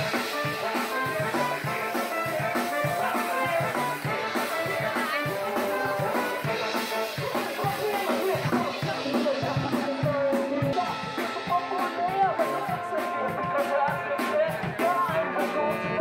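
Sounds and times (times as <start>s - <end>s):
drum kit beat: 0.0s - 16.0s
saxophone: 0.0s - 16.0s
tuba: 0.0s - 16.0s.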